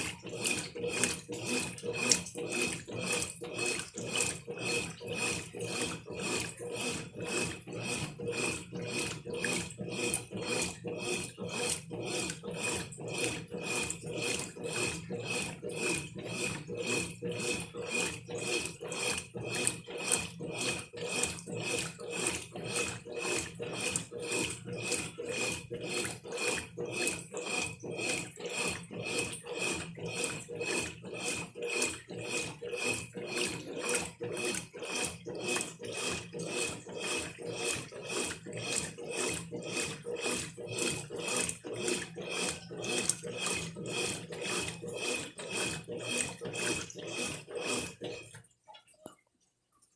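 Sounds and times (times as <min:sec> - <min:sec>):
washing machine agitating: 0:00.0 - 0:49.9.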